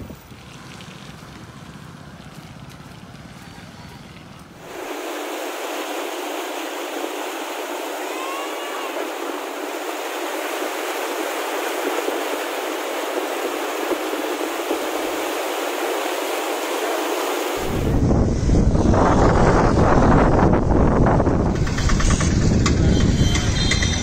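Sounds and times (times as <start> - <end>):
floodwater rushing: 0.0 - 21.2.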